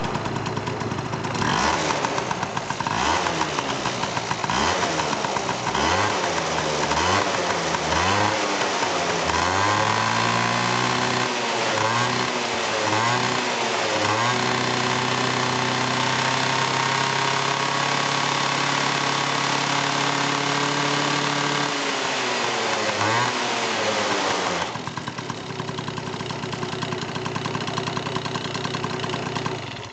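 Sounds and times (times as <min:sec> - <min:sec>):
scooter engine revving: 0:00.0 - 0:29.9.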